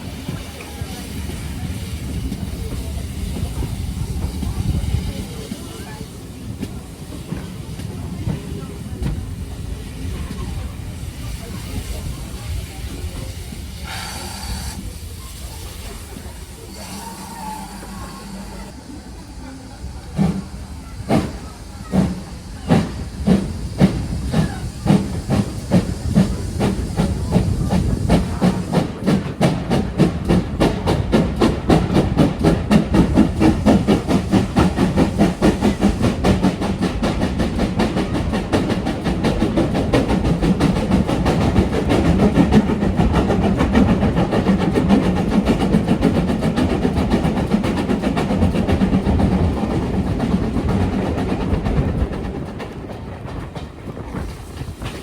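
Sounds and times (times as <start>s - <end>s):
steam hiss: 0.0s - 52.8s, 53.8s - 55.0s
steam locomotive chuffing: 0.0s - 55.0s.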